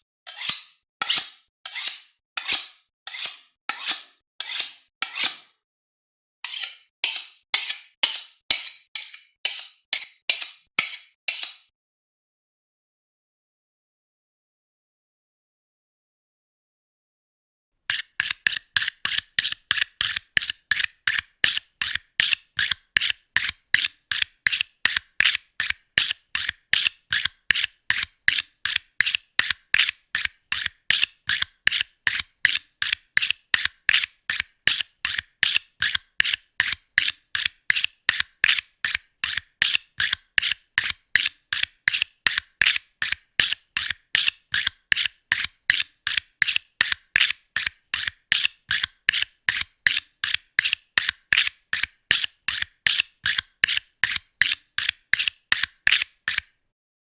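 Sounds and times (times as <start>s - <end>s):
knife being sharpened: 0.3s - 5.6s, 6.4s - 11.7s, 17.9s - 56.5s.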